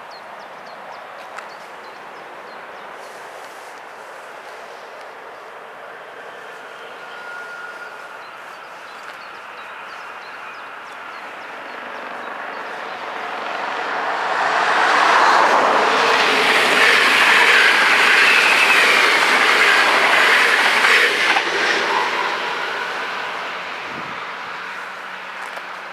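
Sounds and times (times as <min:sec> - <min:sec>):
train wheels on rails: 0:01.0 - 0:25.9.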